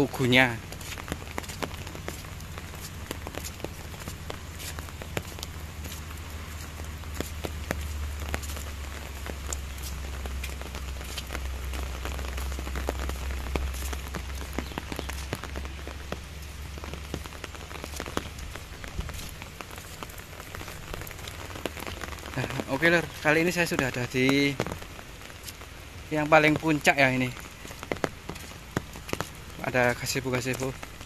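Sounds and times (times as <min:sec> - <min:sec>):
patter of raindrops: 0:00.0 - 0:31.0
rain hiss: 0:00.0 - 0:31.0.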